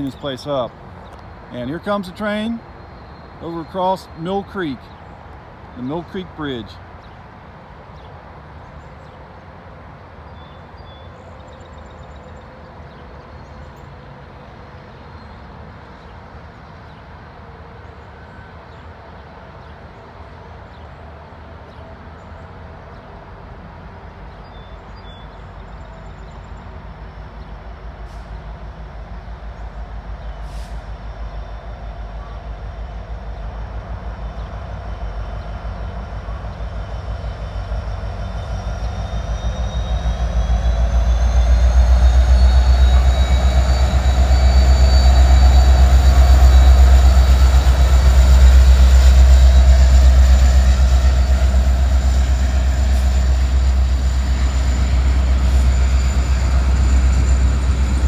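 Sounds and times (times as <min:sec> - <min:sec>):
freight train rumbling on bridge: 0:00.0 - 0:58.0.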